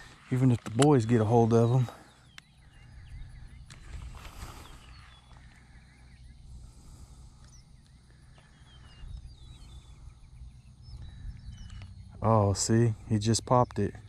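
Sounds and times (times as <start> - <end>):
small birds chirping: 0.0 - 14.0
low background rumble: 1.9 - 14.0.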